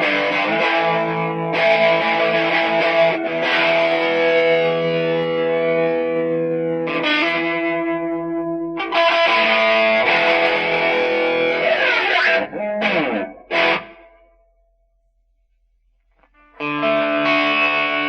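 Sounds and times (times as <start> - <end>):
distorted electric guitar chords: 0.0 - 14.6, 16.1 - 18.0.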